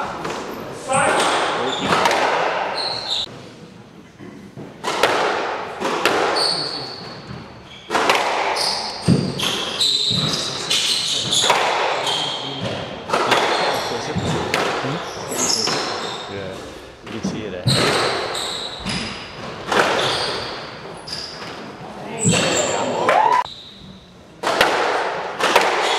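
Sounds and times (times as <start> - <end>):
squash ball hitting rackets and walls: 0.0 - 3.3, 4.6 - 16.3, 17.0 - 23.8, 24.4 - 25.9
shoes squeaking on court floor: 0.4 - 3.3, 6.2 - 24.2.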